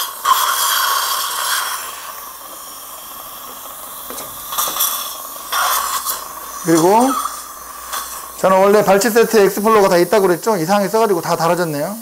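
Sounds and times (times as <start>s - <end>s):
dental suction hissing and slurping: 0.0s - 12.0s.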